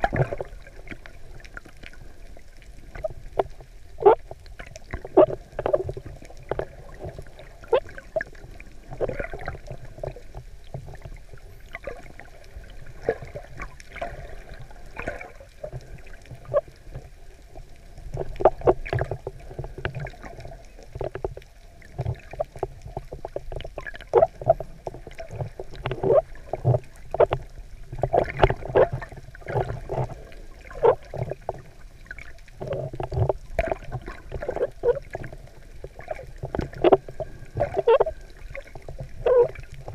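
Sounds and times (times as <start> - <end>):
bubbles: 0.0 - 39.9
underwater gurgling and sloshing: 0.0 - 39.9.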